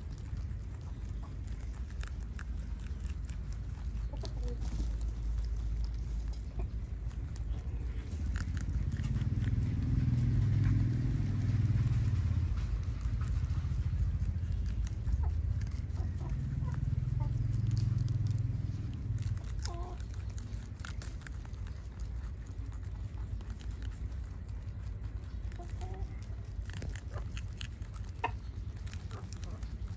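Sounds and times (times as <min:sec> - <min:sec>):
low rumble: 0:00.0 - 0:29.9
rabbits munching greens: 0:00.0 - 0:29.9.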